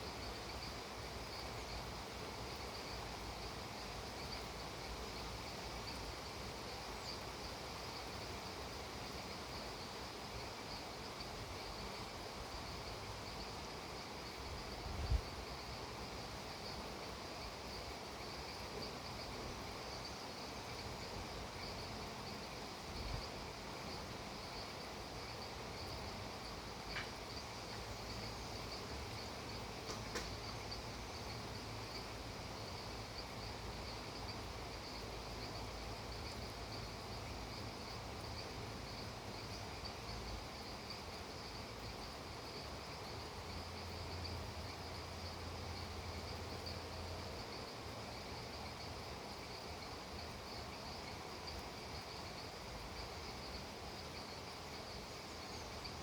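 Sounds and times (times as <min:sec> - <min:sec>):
insects trilling: 0:00.0 - 0:56.0
soft hiss: 0:00.0 - 0:56.0.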